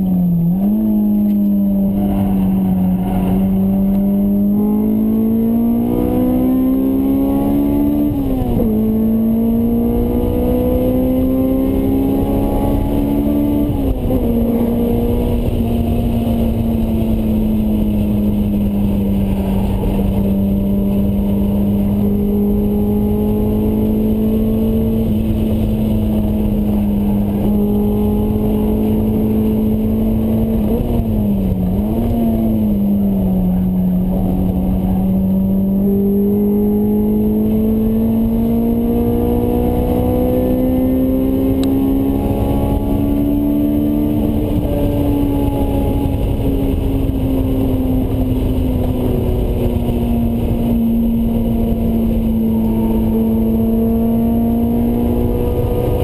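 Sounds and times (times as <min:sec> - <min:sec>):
car engine accelerating: 0:00.0 - 0:56.0
road and wind rumble: 0:00.0 - 0:56.0.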